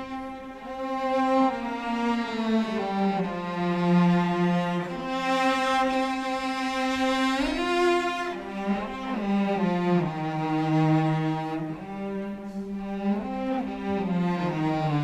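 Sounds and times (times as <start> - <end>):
cello melody: 0.0 - 15.0
orchestral strings playing: 0.0 - 15.0.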